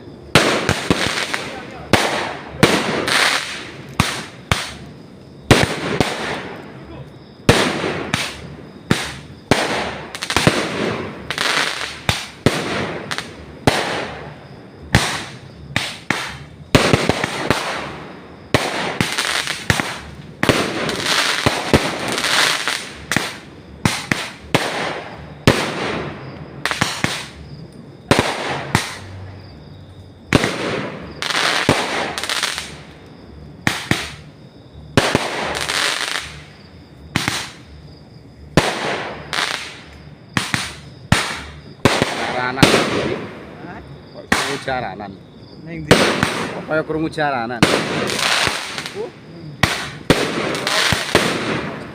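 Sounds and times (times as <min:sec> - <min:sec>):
fireworks banging: 0:00.0 - 0:29.6, 0:30.2 - 0:37.8, 0:38.5 - 0:45.1, 0:45.7 - 0:51.9
crackling hissing tails: 0:00.0 - 0:51.9.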